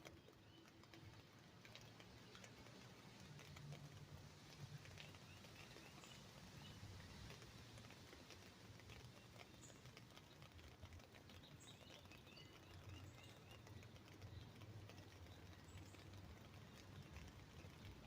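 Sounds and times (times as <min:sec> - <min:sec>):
birds chirping faintly: 0:00.0 - 0:18.0
drips pattering on an umbrella: 0:00.0 - 0:18.0.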